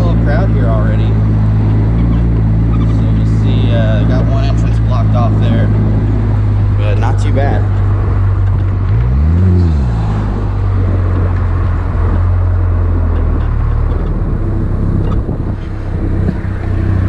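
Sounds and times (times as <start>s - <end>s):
engine low drone: 0.0s - 17.0s
wind noise: 0.0s - 17.0s.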